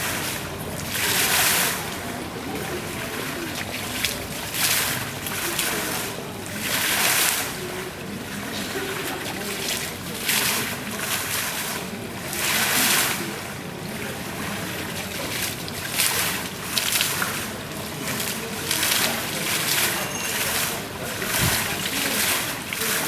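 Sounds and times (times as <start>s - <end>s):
fountain jets splashing on stones: 0.0s - 23.0s.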